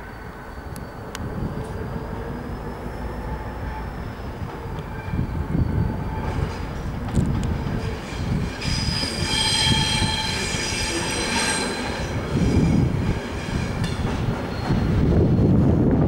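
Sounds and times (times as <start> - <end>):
diesel locomotive engine rumbling: 0.0 - 16.0
wheels squealing on rails: 0.0 - 16.0.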